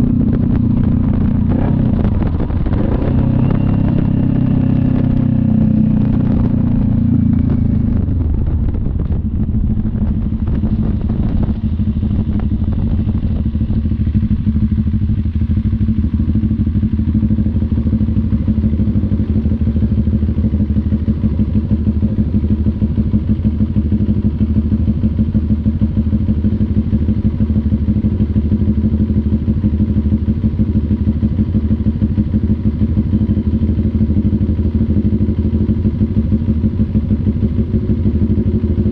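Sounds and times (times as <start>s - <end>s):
two-cylinder motorcycle engine: 0.0s - 38.9s.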